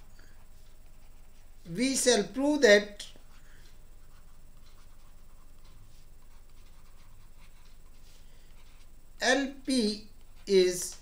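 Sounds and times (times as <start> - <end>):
low steady hum: 0.0 - 11.0
stylus scratching on tablet: 0.5 - 11.0.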